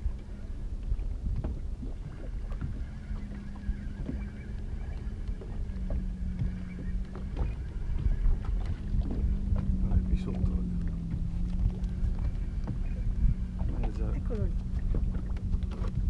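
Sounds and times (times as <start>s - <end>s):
boat motor humming: 0.0s - 16.0s
wind buffeting microphone: 0.0s - 16.0s.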